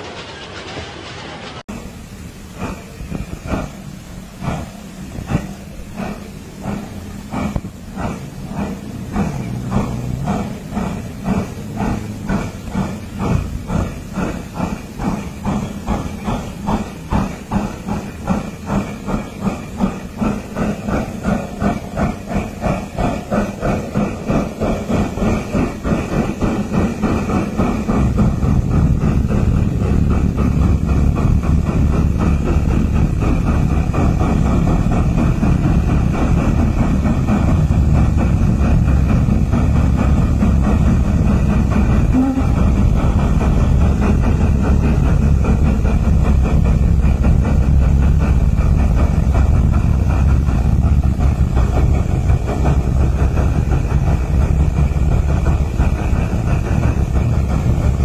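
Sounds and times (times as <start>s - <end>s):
steam locomotive chuffing: 0.0s - 58.0s.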